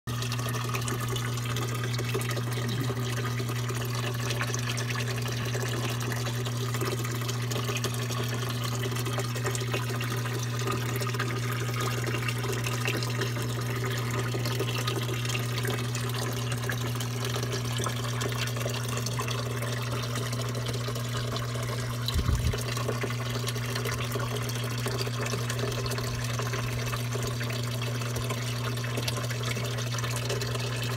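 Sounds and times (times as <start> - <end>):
water trickling in a pond: 0.1 - 30.9
steady low hum: 0.2 - 27.8.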